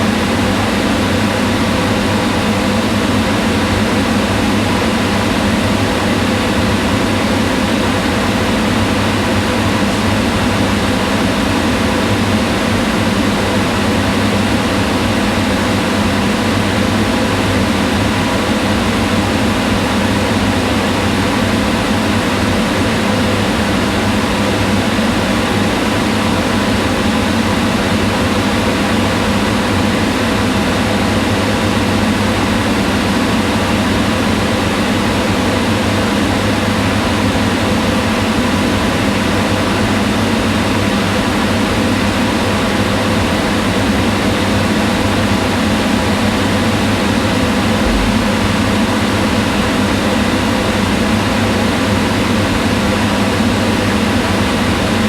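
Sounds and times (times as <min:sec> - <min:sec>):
range hood fan running: 0:00.0 - 0:55.0.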